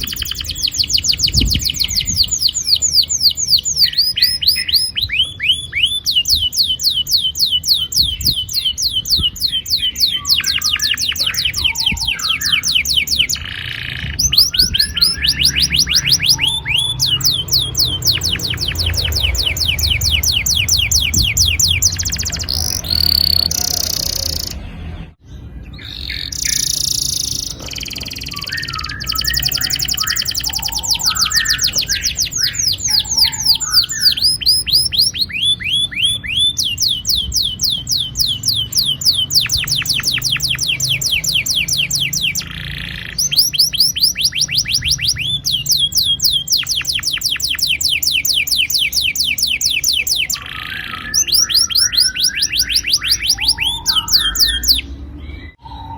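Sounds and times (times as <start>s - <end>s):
canary singing rolling trills: 0.0s - 55.9s.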